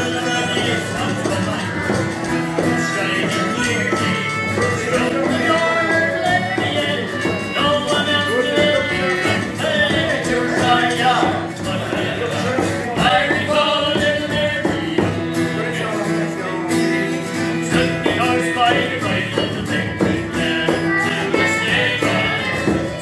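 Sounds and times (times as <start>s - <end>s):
acoustic guitar strumming: 0.0s - 23.0s
folk melody line: 0.0s - 23.0s.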